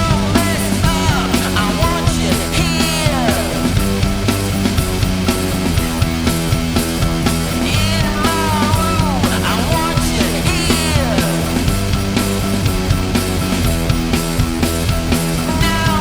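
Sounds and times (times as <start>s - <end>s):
punk rock band playing: 0.0s - 16.0s.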